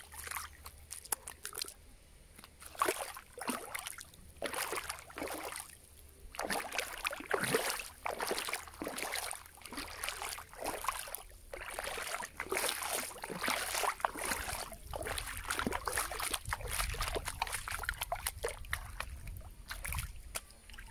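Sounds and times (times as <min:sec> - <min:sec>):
lake water sloshing and splashing: 0:00.0 - 0:01.8, 0:02.4 - 0:20.9.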